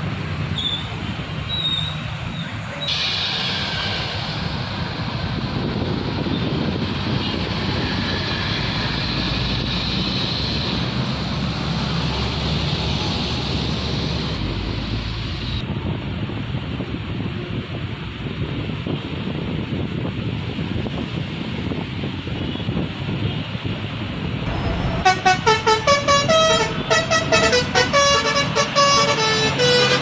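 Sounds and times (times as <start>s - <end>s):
roadside traffic noise: 0.0s - 30.0s.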